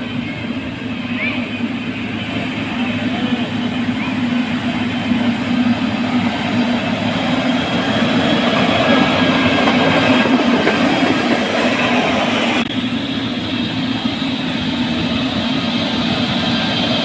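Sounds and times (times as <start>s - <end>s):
heavy engine rumbling: 0.0s - 17.0s
hiss over engine: 0.0s - 17.0s.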